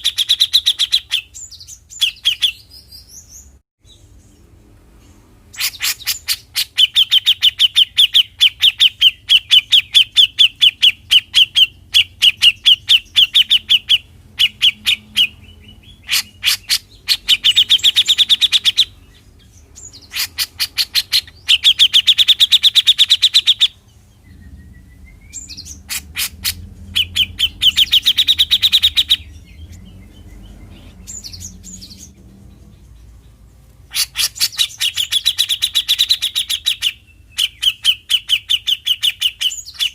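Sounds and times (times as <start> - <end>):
bird rapid ticking call: 5.6 - 39.9.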